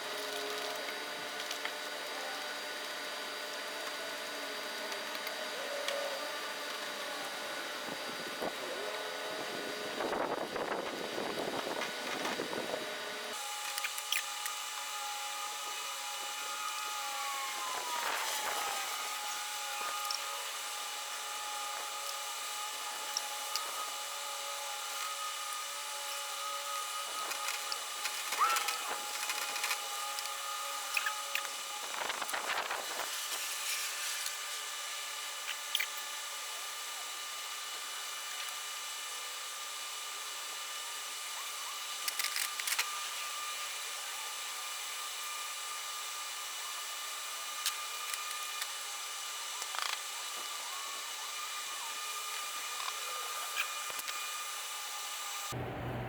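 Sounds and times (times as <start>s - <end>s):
power tool motor running: 0.0s - 55.6s.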